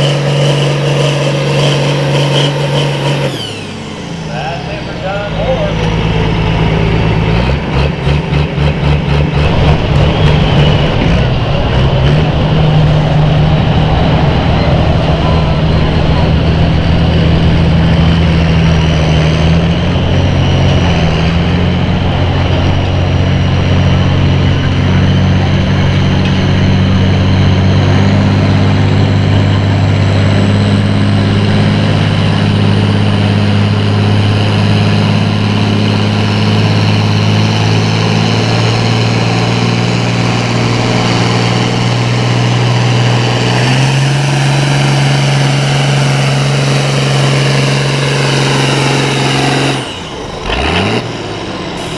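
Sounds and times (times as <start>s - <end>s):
tractor engine at high revs: 0.0s - 51.9s.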